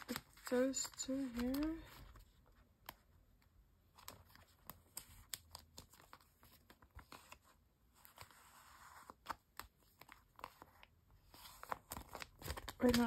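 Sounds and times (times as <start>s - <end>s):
plastic sleeves crinkling: 0.0s - 13.0s.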